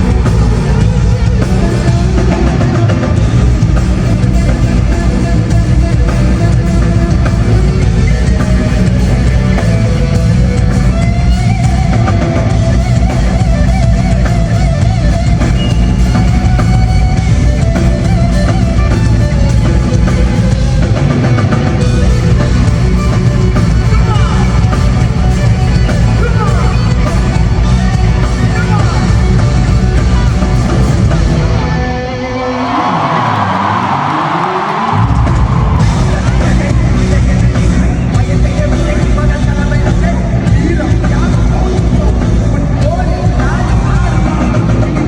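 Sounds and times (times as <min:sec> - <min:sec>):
live rock band playing: 0:00.0 - 0:45.0.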